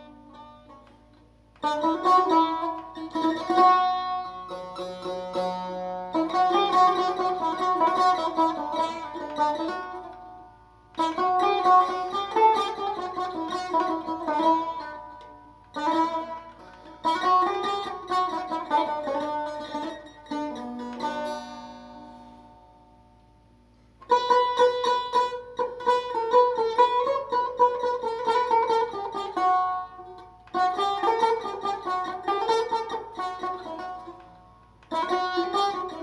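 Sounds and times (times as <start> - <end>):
plucked lute playing: 0.0 - 23.1, 23.7 - 36.0.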